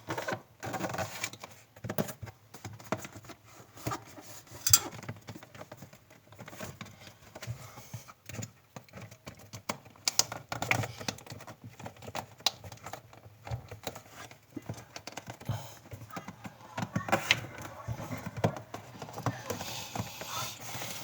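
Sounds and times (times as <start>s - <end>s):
hands handling fridge parts: 0.1s - 21.0s.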